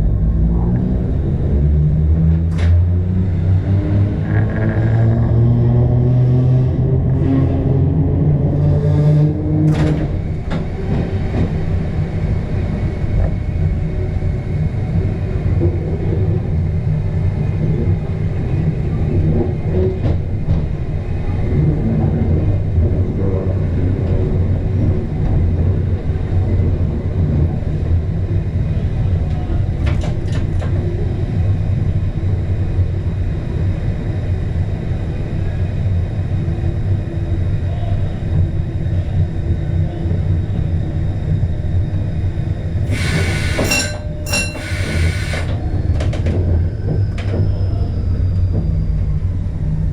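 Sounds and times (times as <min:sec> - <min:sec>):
electric train deep rumble: 0:00.0 - 0:49.9.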